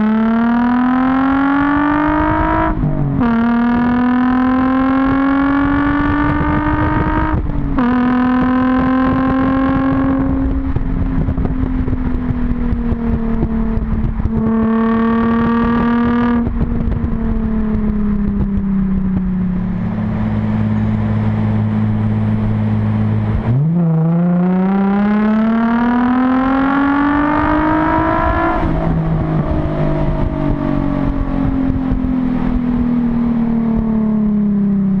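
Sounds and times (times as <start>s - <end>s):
car engine revving through exhaust: 0.0s - 35.0s.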